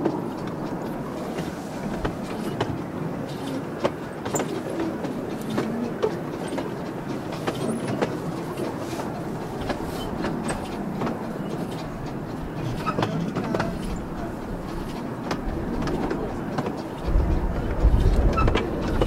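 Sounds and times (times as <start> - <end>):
sharp clicks and knocks: 0.0 - 19.0
train wheels rumbling on track: 0.0 - 19.0.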